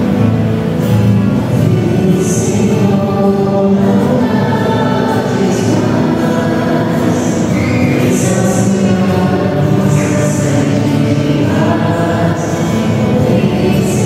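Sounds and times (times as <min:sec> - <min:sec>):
choir singing a hymn: 0:01.1 - 0:14.0.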